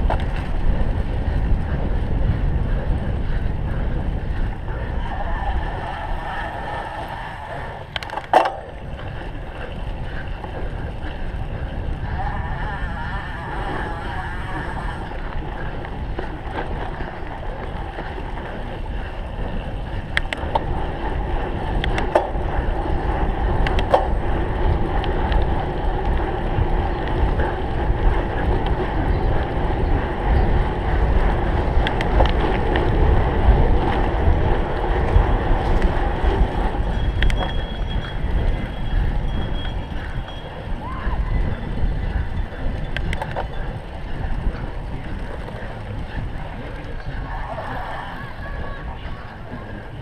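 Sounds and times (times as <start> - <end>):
bike clicks and rattles: 0.0 - 50.0
bike rumbling over rough ground: 0.0 - 50.0
wind buffeting microphone: 0.0 - 50.0.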